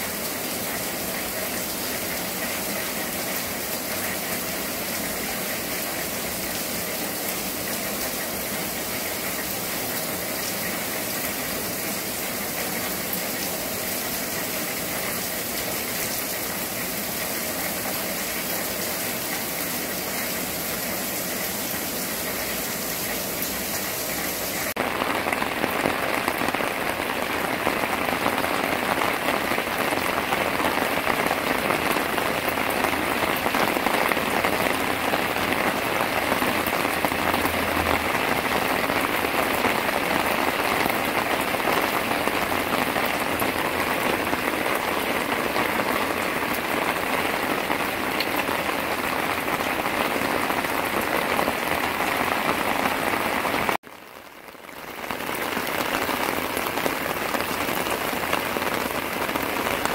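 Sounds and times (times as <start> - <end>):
rain pattering on ground: 0.0 - 59.9.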